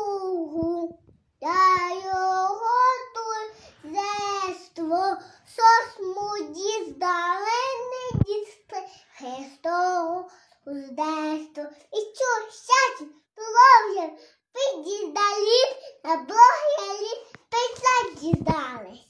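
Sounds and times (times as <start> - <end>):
girl singing unaccompanied: 0.0 - 19.0.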